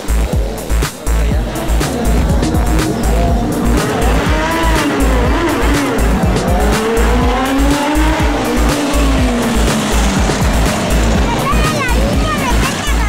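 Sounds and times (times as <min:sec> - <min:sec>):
motorcycle engines revving: 0:00.0 - 0:13.0
music with pulsing bass beat: 0:00.0 - 0:13.0.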